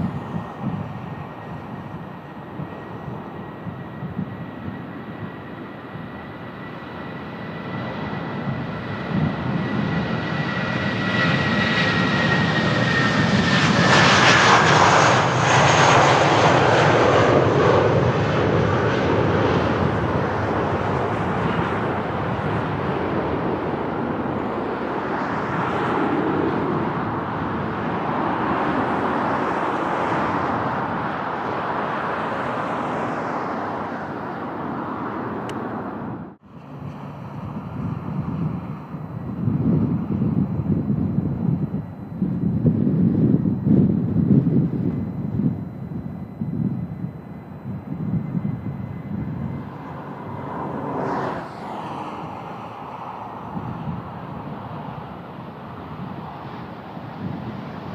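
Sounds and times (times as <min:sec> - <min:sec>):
airplane passing by: 0:00.0 - 0:57.9
wind buffeting microphone: 0:00.0 - 0:57.9.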